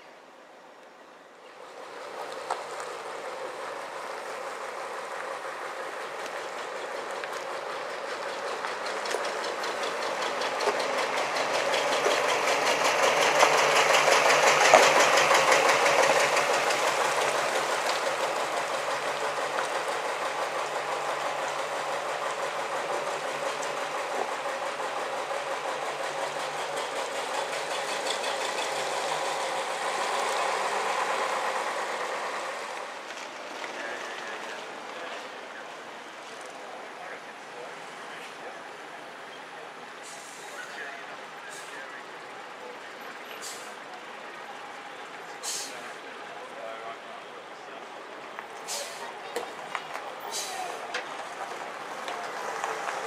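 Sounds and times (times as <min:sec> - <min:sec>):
bus diesel engine passing: 0:00.0 - 0:53.0.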